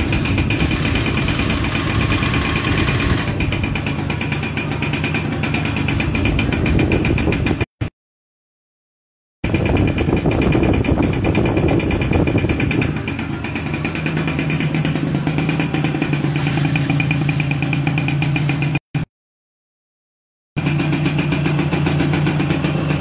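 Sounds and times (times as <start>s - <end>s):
two-stroke engine running: 0.0s - 7.7s, 9.4s - 19.1s, 20.6s - 23.0s.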